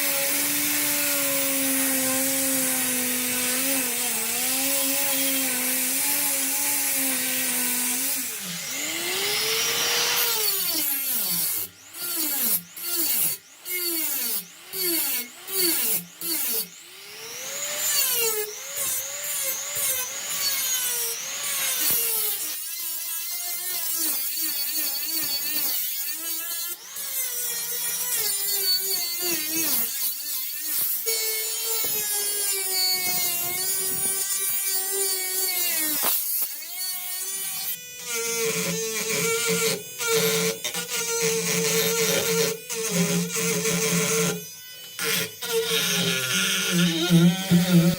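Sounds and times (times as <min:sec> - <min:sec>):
power tool motor running: 0:00.0 - 0:22.5, 0:30.7 - 0:47.9.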